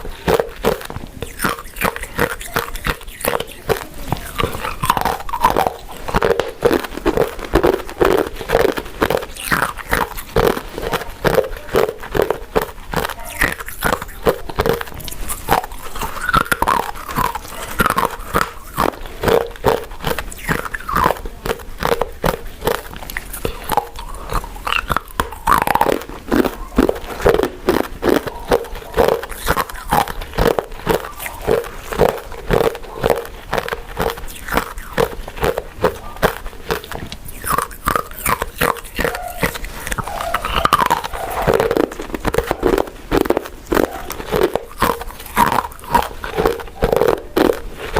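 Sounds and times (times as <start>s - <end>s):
mouth chewing sticky food: 0.0s - 47.9s.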